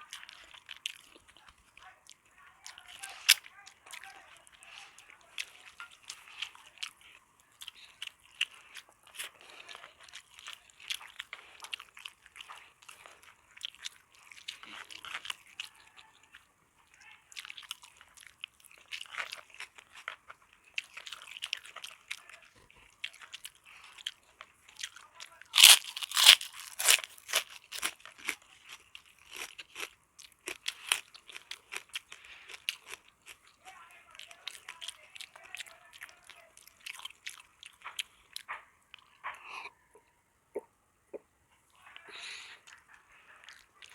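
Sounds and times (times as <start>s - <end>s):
person chewing and crunching food: 0.0s - 43.9s.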